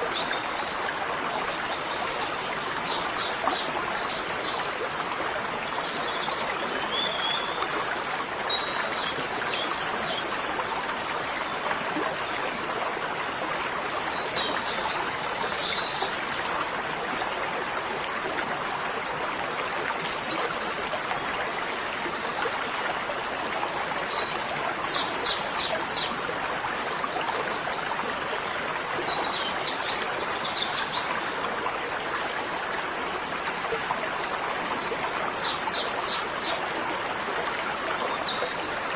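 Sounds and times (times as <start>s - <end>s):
running water stream: 0.0s - 38.9s.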